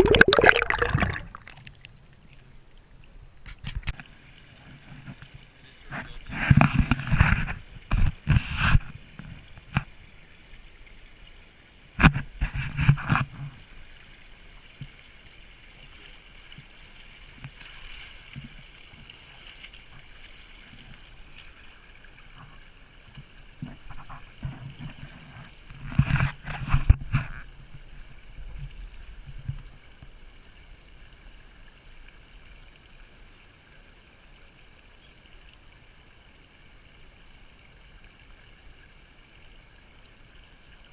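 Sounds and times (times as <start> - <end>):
creek water running: 0.0 - 40.9.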